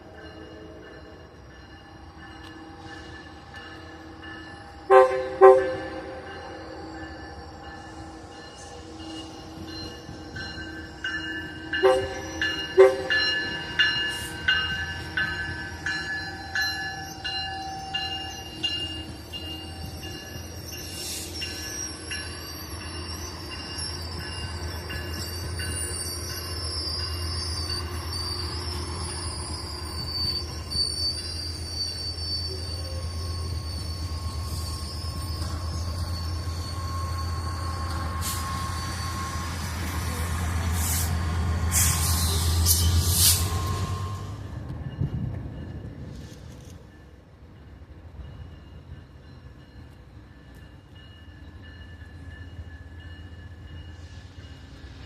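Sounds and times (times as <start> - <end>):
locomotive bell ringing: 0.0 - 45.9, 46.9 - 54.9
steel wheels squealing on rails: 0.0 - 55.0.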